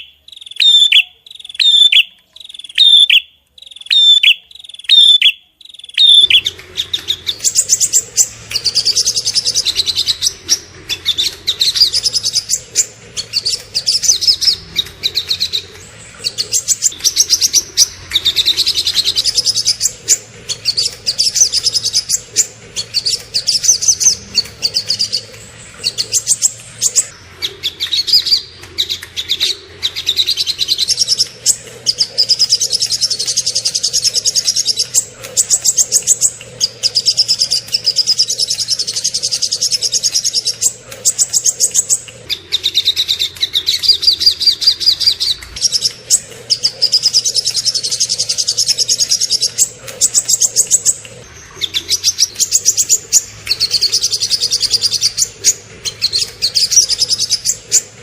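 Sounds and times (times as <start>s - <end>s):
songbirds trilling and chattering: 0.0s - 58.0s.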